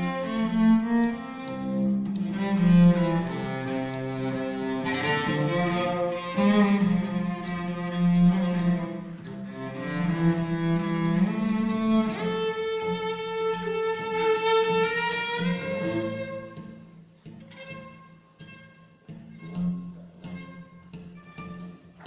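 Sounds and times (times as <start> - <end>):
cello bowed notes: 0.0 - 22.0.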